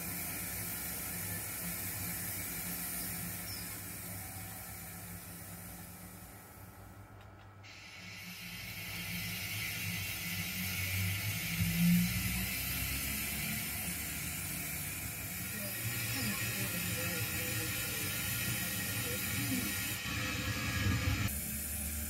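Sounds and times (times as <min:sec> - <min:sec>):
steam hiss: 0:00.0 - 0:06.9, 0:07.6 - 0:22.0
model train motor and wheels hum: 0:00.0 - 0:22.0.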